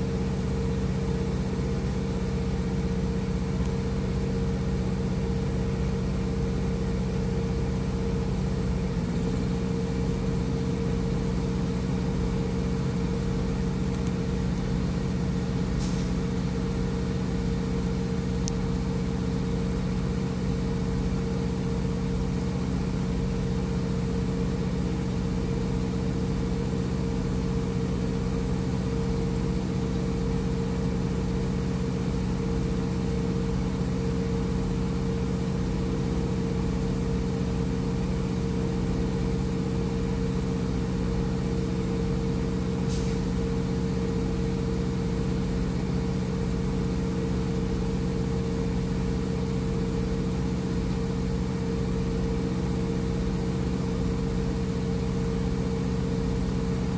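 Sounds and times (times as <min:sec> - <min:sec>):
diesel truck engine idling: 0:00.0 - 0:56.9.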